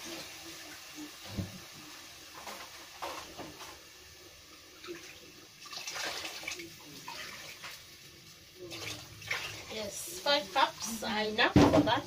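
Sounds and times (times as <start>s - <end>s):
water pouring into a pot: 0.0s - 11.3s.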